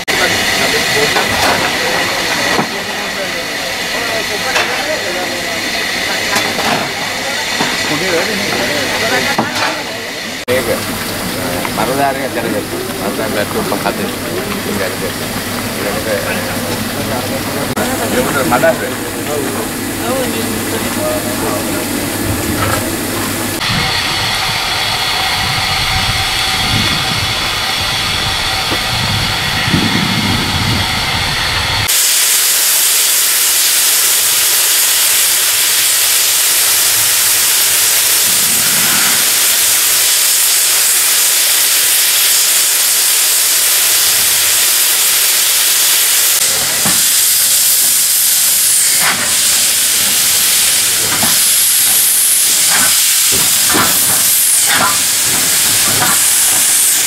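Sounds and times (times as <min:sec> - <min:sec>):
steam engine chuffing beats: 0:00.0 - 0:57.0
steam locomotive hissing: 0:00.0 - 0:57.0.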